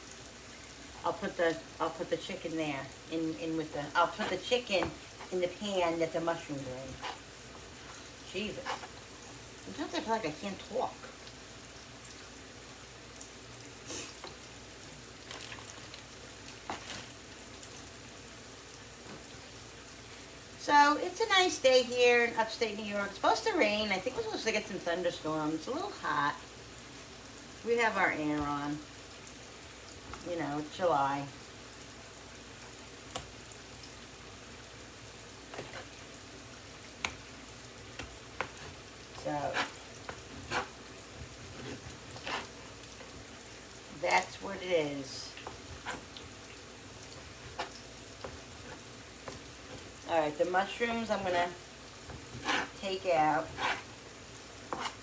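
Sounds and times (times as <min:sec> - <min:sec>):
mushrooms sizzling in a pan: 0:00.0 - 0:55.0.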